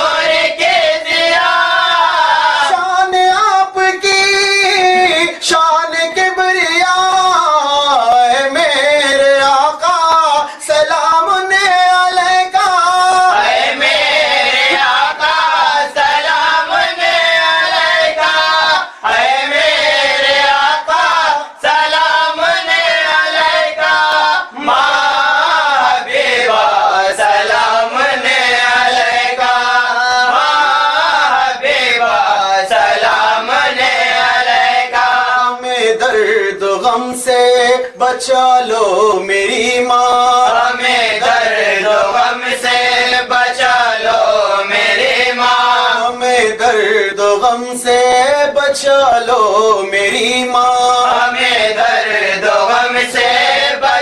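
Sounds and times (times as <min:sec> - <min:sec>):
chorus of voices singing: 0:00.0 - 0:04.0, 0:07.2 - 0:54.0.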